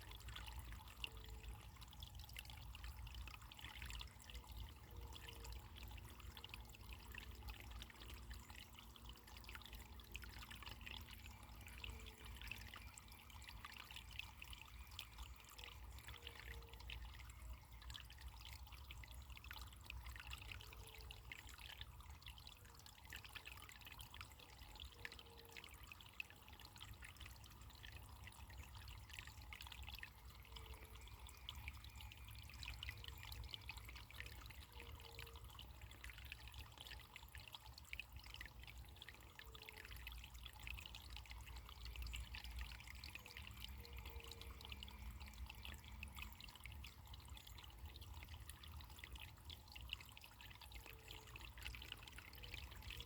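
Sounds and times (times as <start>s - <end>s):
faint water trickling: 0.0s - 53.0s.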